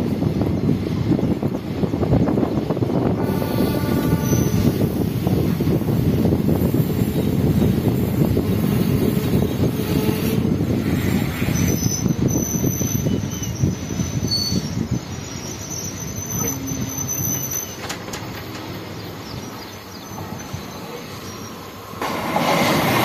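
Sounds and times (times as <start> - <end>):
train wheels rumbling on rails: 0.0 - 23.0
high wheel squeals: 3.3 - 22.0.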